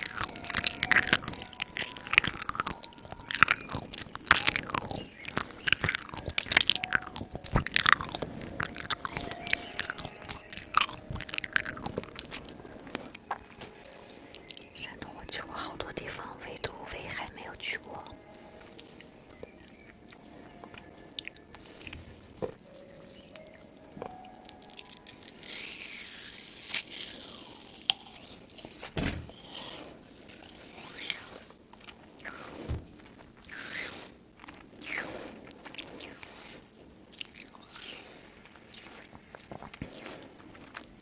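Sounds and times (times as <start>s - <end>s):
person chewing crunchy food: 0.0s - 41.0s.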